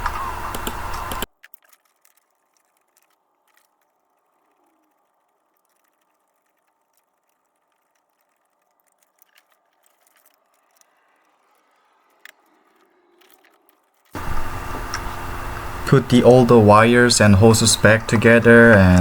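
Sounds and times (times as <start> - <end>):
faint clicks: 0.0 - 19.0.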